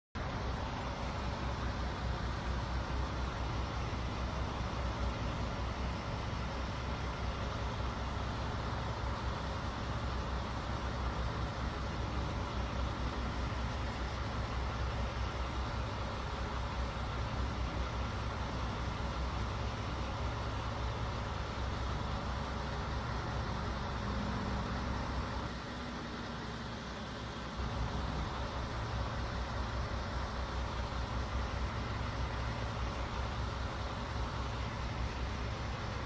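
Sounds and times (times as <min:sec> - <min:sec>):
vehicle engine idling: 0:00.2 - 0:36.0.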